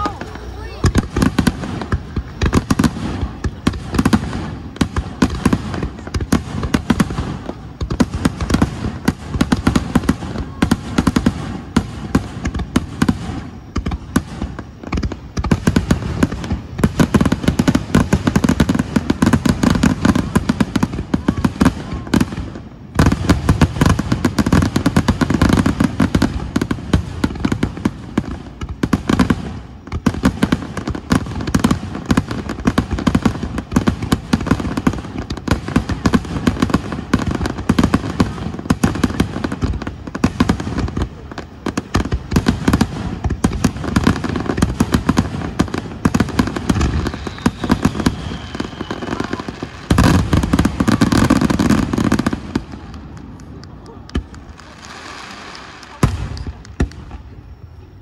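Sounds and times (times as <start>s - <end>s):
fireworks banging: 0.0s - 58.0s.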